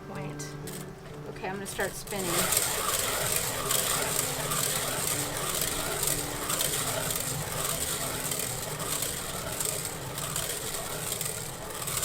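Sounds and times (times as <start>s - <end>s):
mechanical whir of spinner: 0.3s - 12.0s.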